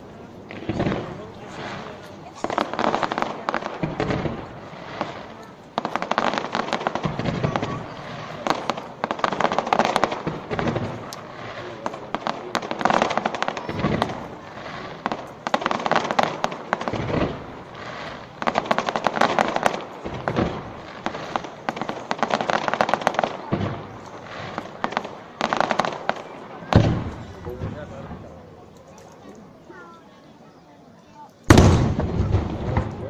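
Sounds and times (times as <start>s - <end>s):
fireworks booms: 0.0s - 28.8s, 31.4s - 33.0s
fireworks crackling: 0.0s - 33.0s.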